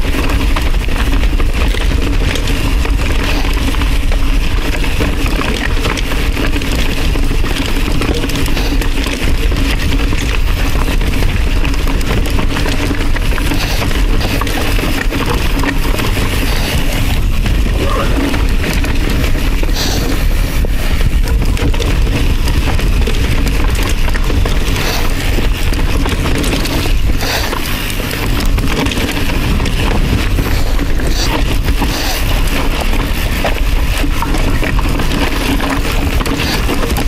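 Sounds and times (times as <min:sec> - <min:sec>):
bike rattling: 0:00.0 - 0:37.0
tyres rolling over dirt and rocks: 0:00.0 - 0:37.0
wind rushing over microphone: 0:00.0 - 0:37.0.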